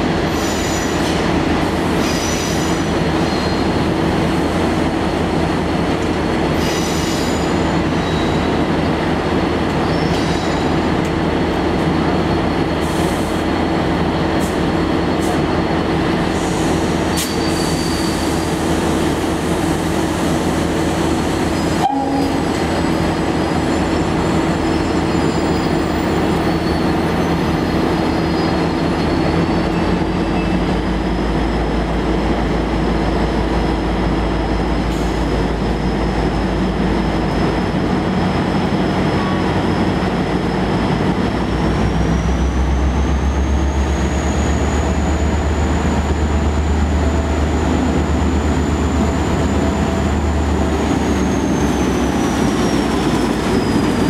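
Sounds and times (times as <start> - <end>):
train engine drone: 0.0 - 54.0.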